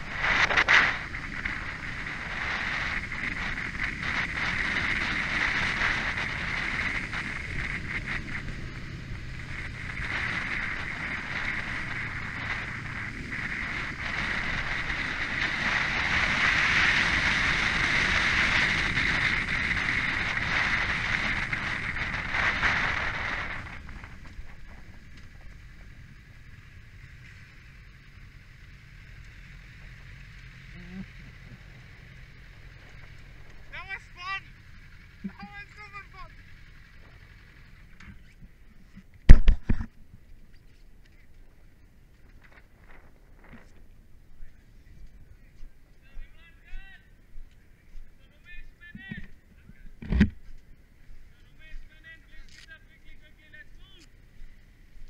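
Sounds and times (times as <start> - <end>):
motorcycle engine running: 0.0 - 55.0
wind rushing over camera: 0.0 - 55.0.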